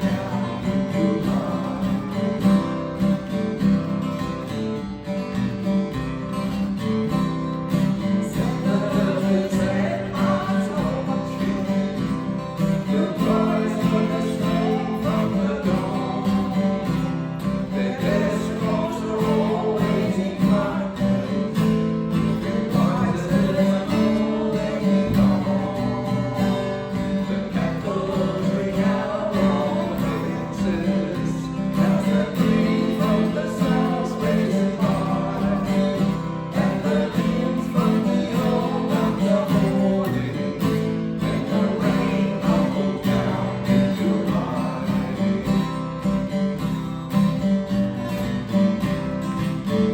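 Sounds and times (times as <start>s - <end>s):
person singing: 0.0s - 2.7s, 8.1s - 45.7s
acoustic guitar strumming: 0.0s - 49.9s.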